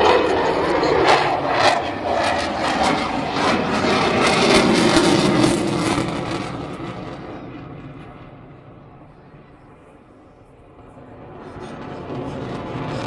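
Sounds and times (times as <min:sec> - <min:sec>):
jet aircraft roaring past: 0:00.0 - 0:13.0.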